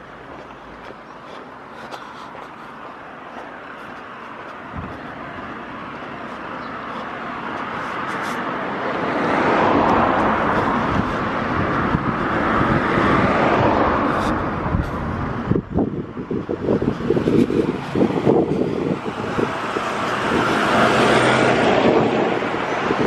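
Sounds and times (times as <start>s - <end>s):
vehicle passing close by: 3.6s - 23.0s.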